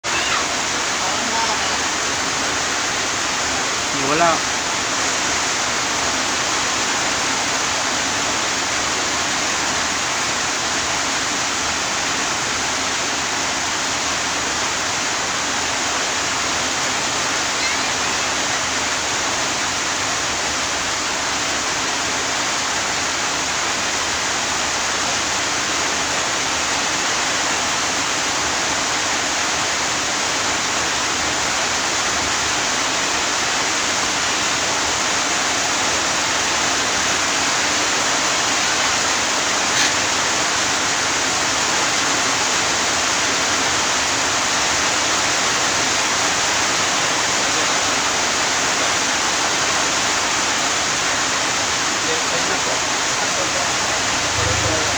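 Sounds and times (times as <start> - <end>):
steady hiss: 0.1 - 54.9.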